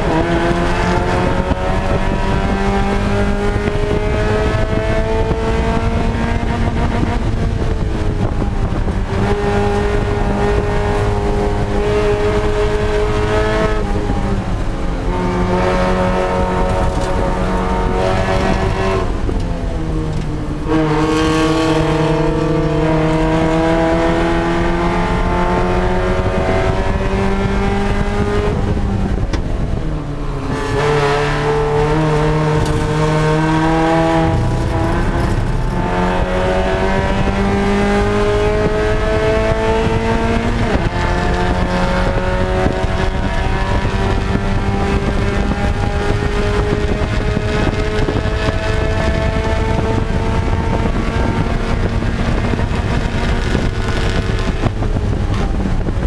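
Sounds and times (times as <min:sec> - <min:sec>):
car engine at full throttle: 0:00.0 - 0:56.0.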